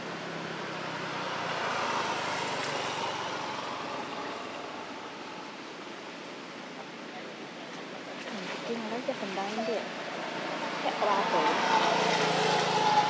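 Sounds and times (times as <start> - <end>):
road noise of passing vehicle: 0.0 - 13.0.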